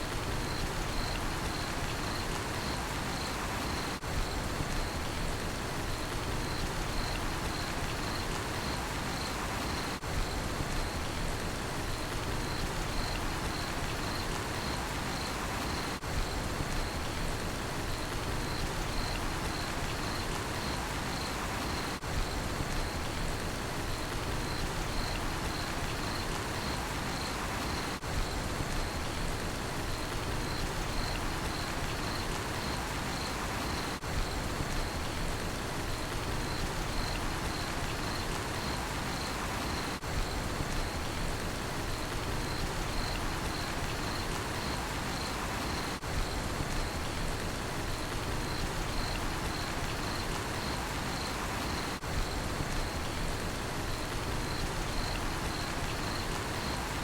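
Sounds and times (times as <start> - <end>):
rain hiss: 0.0 - 57.0
cricket chirping: 0.2 - 5.2, 6.0 - 11.1, 12.0 - 17.2, 17.9 - 23.2, 23.9 - 29.2, 29.8 - 35.2, 35.9 - 47.3, 47.9 - 57.0.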